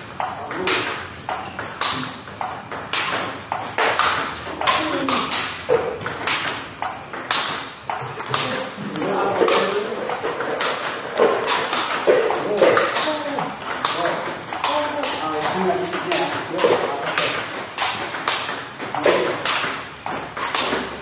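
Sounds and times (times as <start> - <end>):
table tennis balls clicking: 0.0 - 21.0.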